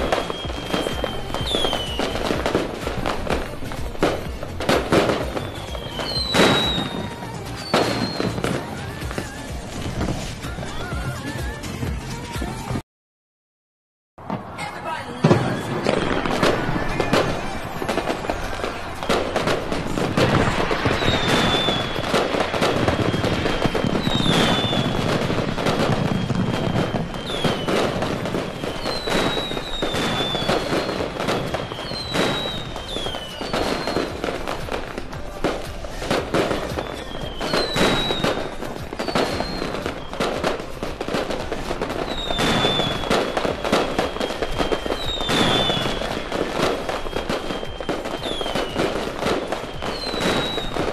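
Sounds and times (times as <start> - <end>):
fireworks whistles sliding down: 0.0 - 11.4, 15.5 - 50.9
fireworks bangs and crackling: 0.0 - 12.8, 14.2 - 50.9.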